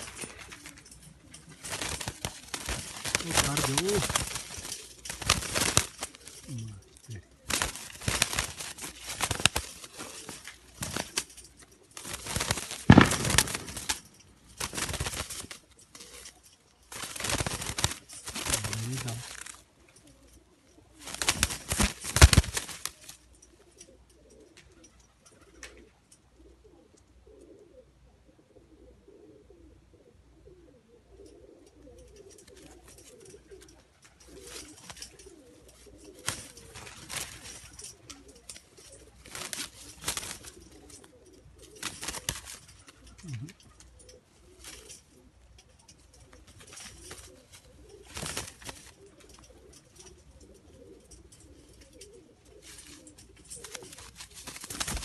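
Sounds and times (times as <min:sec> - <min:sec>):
scratchy rustles and clicks: 0:00.0 - 0:23.4, 0:32.0 - 0:55.0
pigeons flapping wings: 0:00.0 - 0:25.9, 0:31.7 - 0:55.0.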